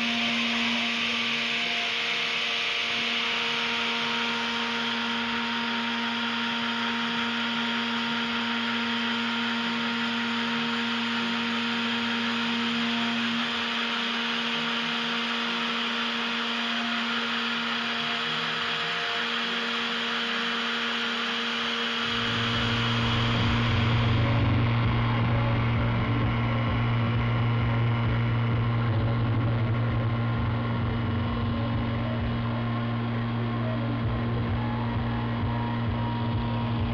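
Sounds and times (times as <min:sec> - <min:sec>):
deep hum: 0:00.0 - 0:18.6, 0:21.6 - 0:36.9
end mill cutting metal: 0:00.0 - 0:36.9
milling spindle whine: 0:00.0 - 0:36.9.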